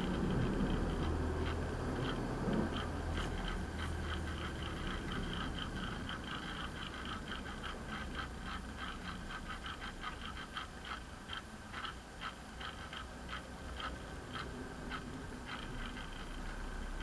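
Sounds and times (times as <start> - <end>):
low motor hum: 0.0 - 17.0
turntable high ticks: 0.0 - 17.0.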